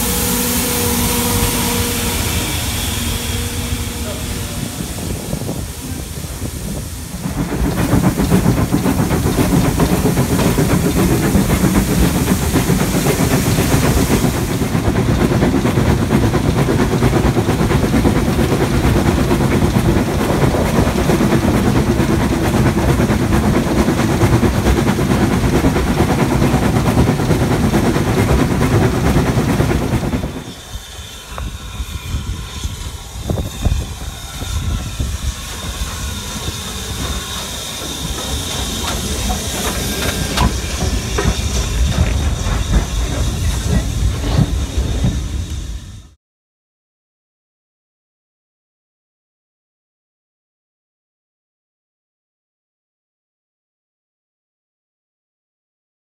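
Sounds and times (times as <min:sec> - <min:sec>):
steam hissing: 0:00.0 - 0:46.2
steam locomotive working: 0:00.0 - 0:46.2
train wheels on rails: 0:00.0 - 0:46.2.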